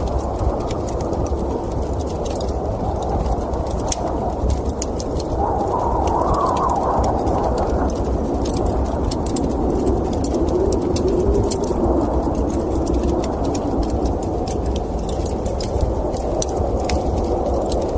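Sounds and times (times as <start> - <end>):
howling wind: 0.0 - 17.9
log fire crackling: 0.0 - 17.9.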